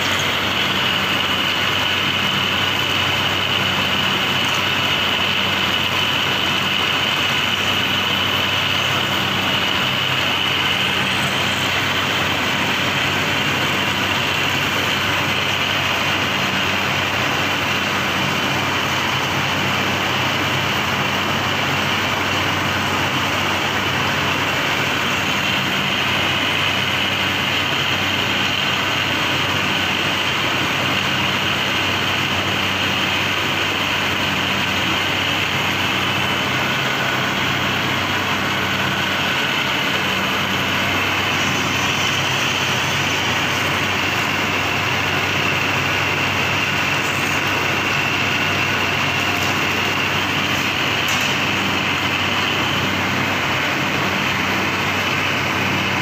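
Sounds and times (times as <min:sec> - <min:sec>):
machinery running with low hum: 0:00.0 - 0:56.0.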